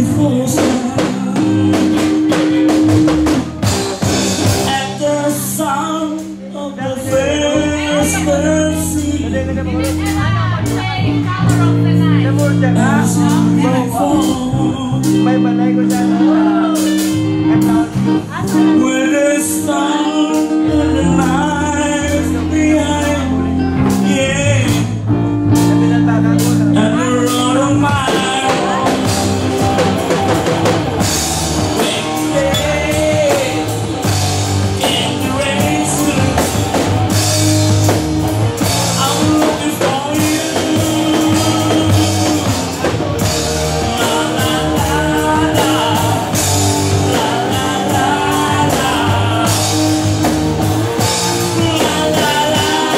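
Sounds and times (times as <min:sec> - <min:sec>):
pop song with singing: 0:00.0 - 0:52.9.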